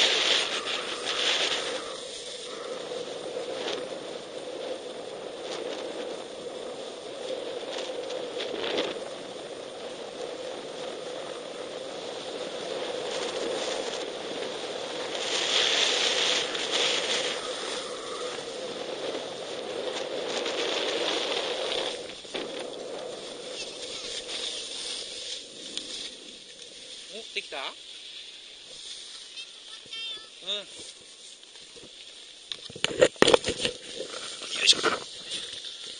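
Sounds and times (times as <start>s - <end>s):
skis sliding on snow: 0.0s - 35.9s.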